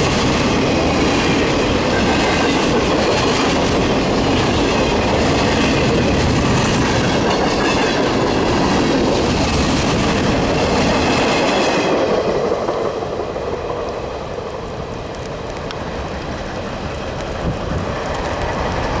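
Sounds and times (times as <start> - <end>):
freight train passing: 0.0 - 19.0
wheels clacking over rail joints: 0.0 - 19.0.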